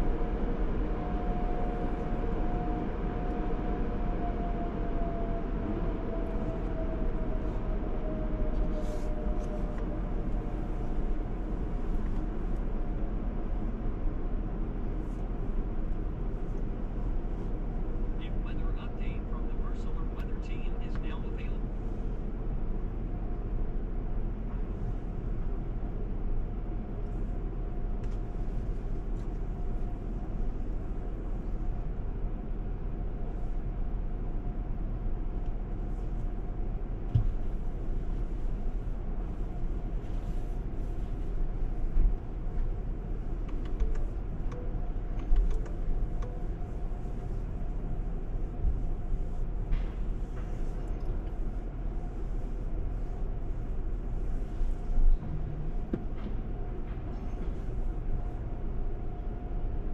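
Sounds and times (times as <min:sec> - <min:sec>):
muffled car wash rumble: 0:00.0 - 0:59.9.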